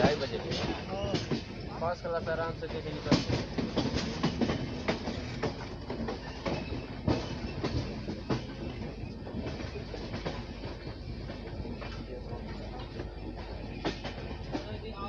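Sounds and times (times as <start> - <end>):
train rumble: 0.0 - 15.0
train wheels clacking over joints: 0.0 - 15.0.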